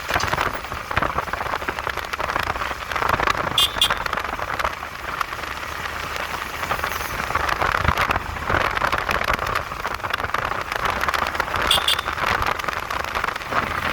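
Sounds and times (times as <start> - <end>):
motorcycle engine rumble: 0.0 - 13.9
wind and road noise: 0.0 - 13.9.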